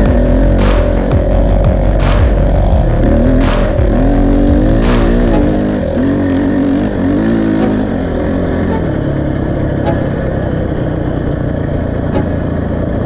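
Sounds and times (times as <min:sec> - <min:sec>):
motorcycle engine: 0:00.0 - 0:13.0
road noise rush: 0:00.0 - 0:13.0.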